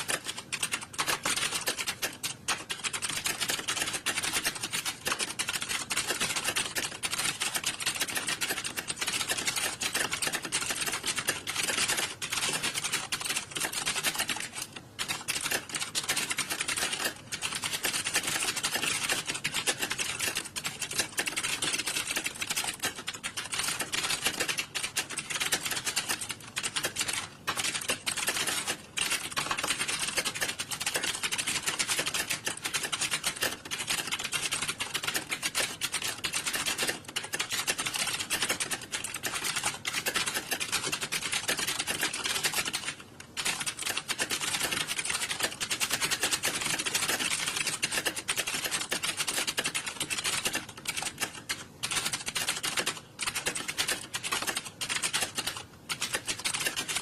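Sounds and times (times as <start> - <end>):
keyboards typing clatter: 0.0 - 57.0.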